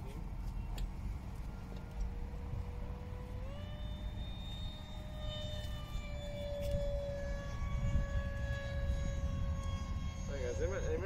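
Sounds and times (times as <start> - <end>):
electric ducted fan whining: 0.0 - 11.0.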